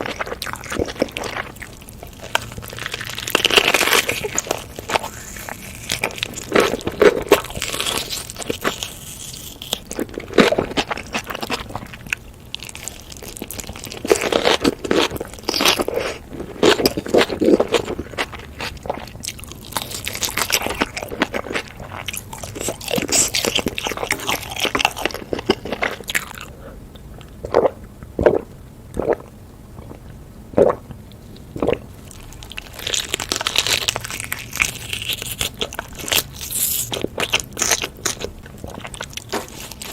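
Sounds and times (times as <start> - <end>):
crunchy biting and chewing: 0.0 - 30.0, 30.6 - 39.9.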